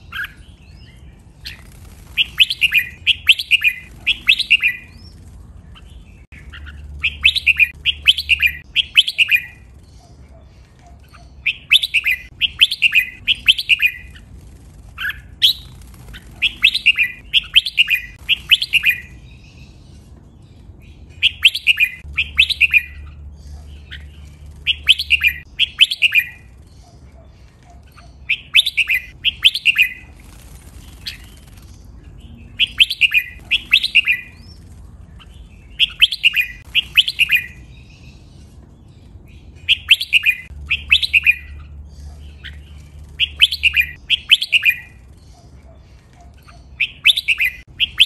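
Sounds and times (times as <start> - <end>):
bird whistling song phrases: 0.0 - 1.0, 1.6 - 10.1, 10.8 - 14.2, 15.0 - 19.7, 21.2 - 30.1, 32.2 - 34.7, 35.7 - 38.2, 39.6 - 45.5, 46.4 - 48.0.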